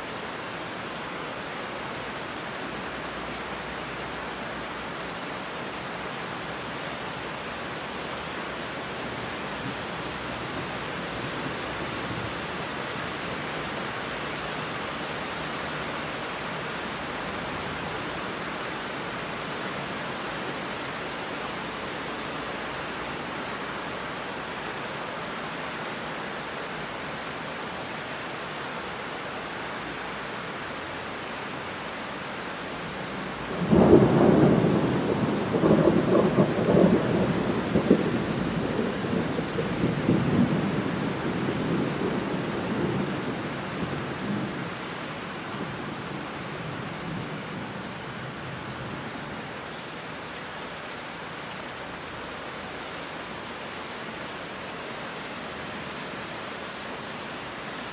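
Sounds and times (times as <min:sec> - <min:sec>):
heavy rain on road and trees: 0:00.0 - 0:57.9.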